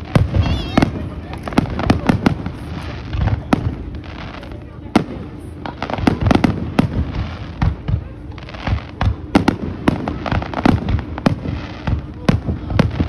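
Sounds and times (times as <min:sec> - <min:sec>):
fireworks bursting with bangs: 0:00.0 - 0:13.0.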